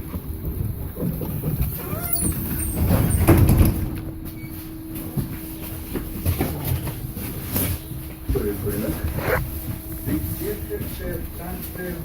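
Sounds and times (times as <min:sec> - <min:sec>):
trolleybus electrical hum: 0:00.0 - 0:12.0.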